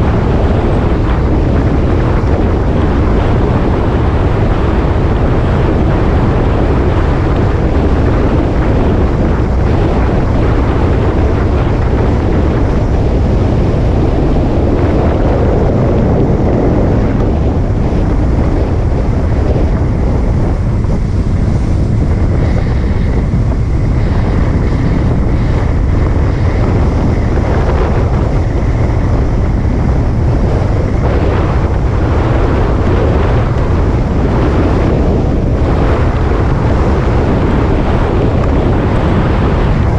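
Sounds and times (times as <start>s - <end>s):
motorcycle engine: 0.0s - 39.9s
road noise: 0.0s - 39.9s
wind noise on microphone: 0.0s - 39.9s.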